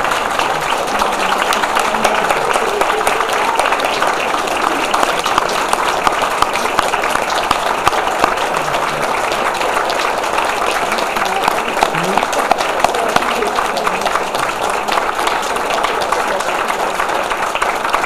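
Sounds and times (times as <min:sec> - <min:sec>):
voices: 0:00.0 - 0:07.3, 0:07.9 - 0:17.7
audience applauding: 0:00.0 - 0:18.0.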